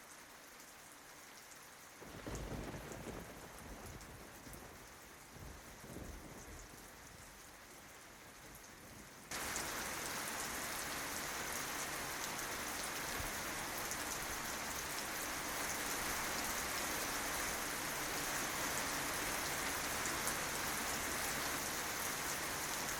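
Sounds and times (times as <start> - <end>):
rain falling on leaves: 0.0 - 22.9.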